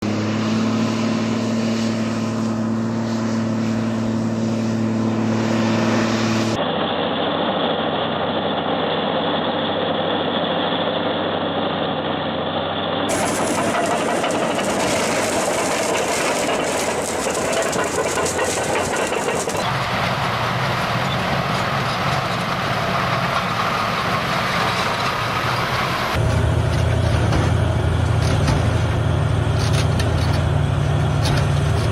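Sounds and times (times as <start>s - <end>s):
heavy machinery engines running: 0.0s - 31.9s.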